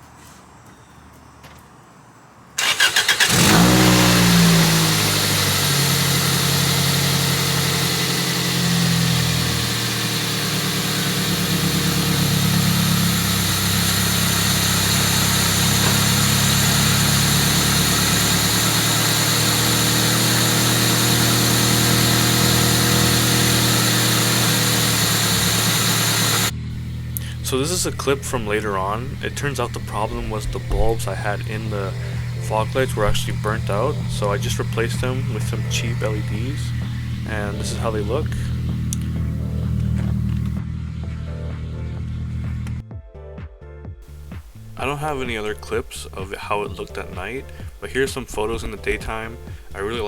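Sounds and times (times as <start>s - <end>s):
car engine idling: 2.6s - 42.8s, 44.0s - 50.0s
starter cranking engine: 2.6s - 42.8s, 44.1s - 50.0s.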